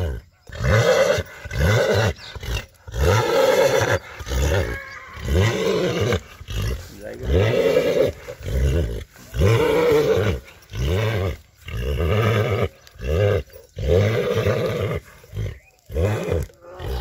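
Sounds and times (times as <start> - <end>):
stallion grunting calls: 0.0 - 17.0.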